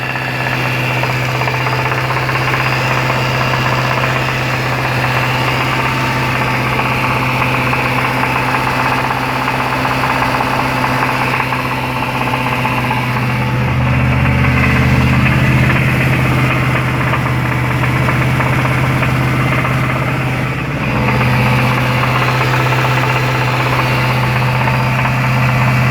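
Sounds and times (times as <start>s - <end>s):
car engine with rod knock: 0.0s - 25.9s.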